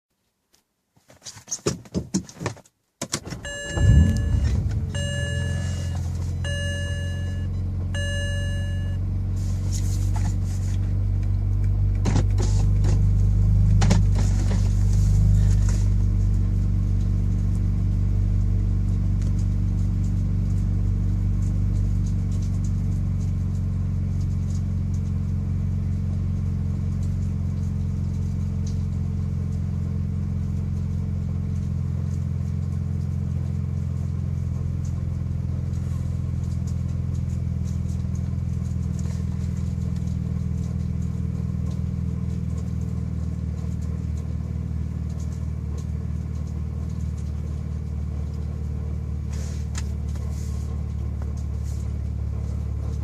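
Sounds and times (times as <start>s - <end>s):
car engine idling: 3.2s - 53.0s.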